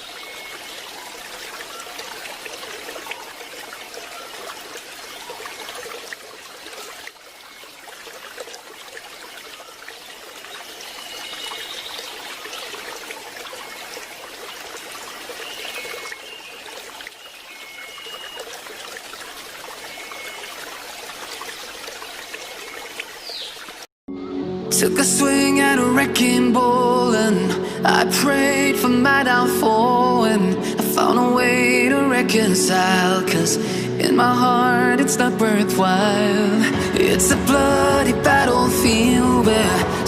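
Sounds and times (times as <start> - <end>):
waterfall and stream splashing: 0.0 - 23.9, 24.7 - 40.0.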